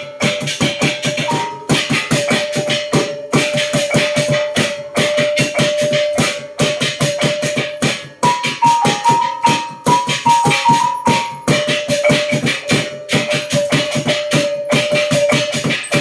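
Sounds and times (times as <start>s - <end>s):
fast percussive beat: 0.0s - 16.0s.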